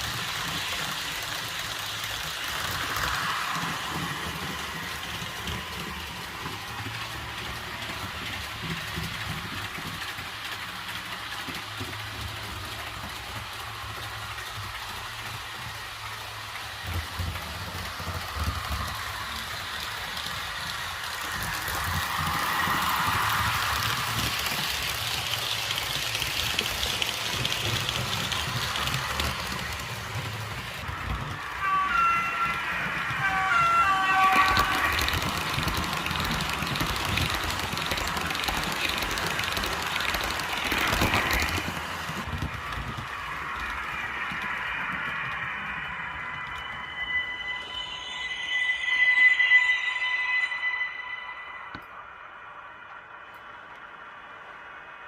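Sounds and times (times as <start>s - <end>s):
model train humming on track: 0.0s - 49.5s
train running sound from speaker: 0.0s - 55.0s.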